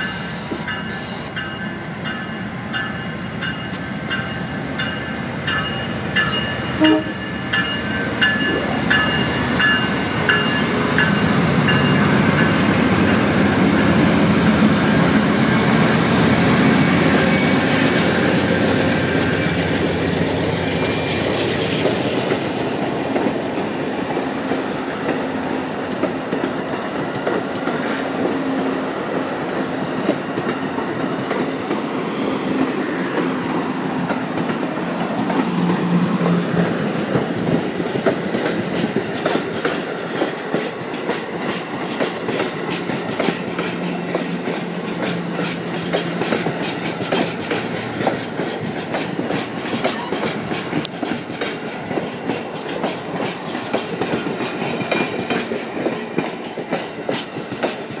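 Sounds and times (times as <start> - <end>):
train wheels rushing on rails: 0.0 - 58.0
clickety-clack over rail joints: 0.5 - 28.4, 29.0 - 58.0.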